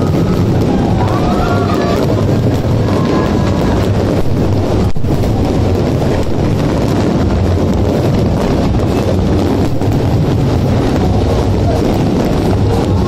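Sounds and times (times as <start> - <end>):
fireworks barrage rumbling: 0.0 - 13.0
wind noise on microphone: 0.0 - 13.0.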